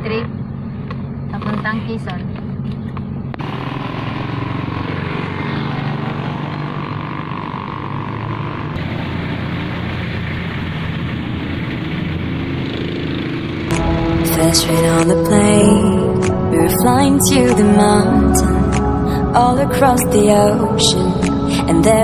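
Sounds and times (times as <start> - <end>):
car engine driving: 0.0 - 22.0
passing traffic: 0.0 - 22.0.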